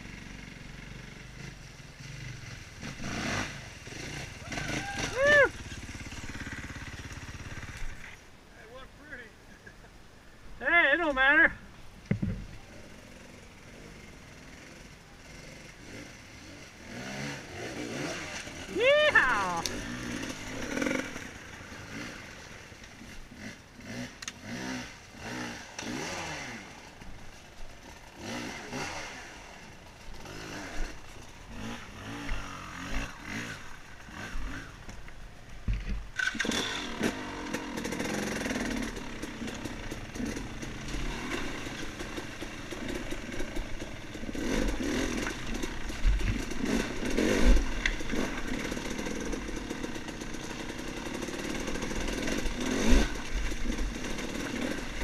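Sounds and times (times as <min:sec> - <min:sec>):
dirt bike engine revving: 0:00.0 - 0:08.2, 0:12.2 - 0:35.0, 0:36.1 - 0:55.0.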